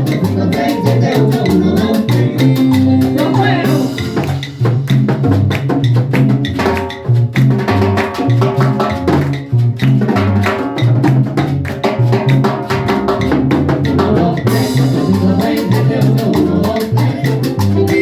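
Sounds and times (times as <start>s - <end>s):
busy percussion and drums: 0.0s - 18.0s
walking bass line: 0.0s - 18.0s.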